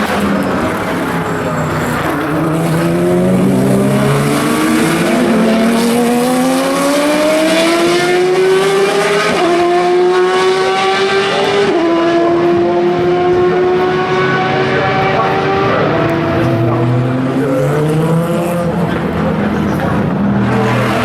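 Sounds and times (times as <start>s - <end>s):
race car accelerating: 0.0s - 21.0s.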